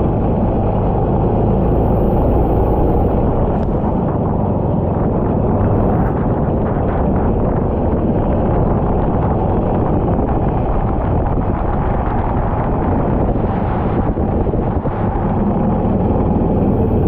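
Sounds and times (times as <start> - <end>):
racing kart engine: 0.0 - 17.0
wind buffeting microphone: 0.0 - 17.0.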